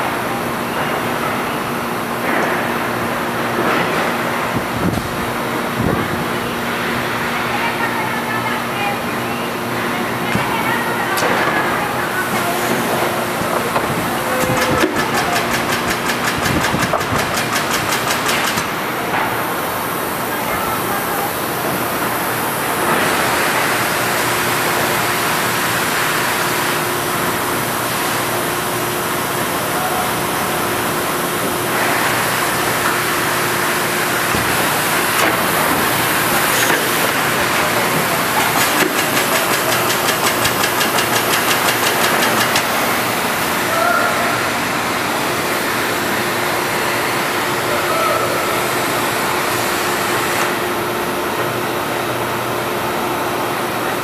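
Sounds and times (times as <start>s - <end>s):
machinery humming with hiss: 0.0s - 54.0s.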